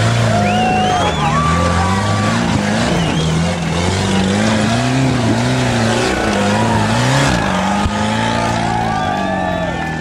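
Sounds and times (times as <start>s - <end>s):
engine revving under load: 0.0s - 10.0s.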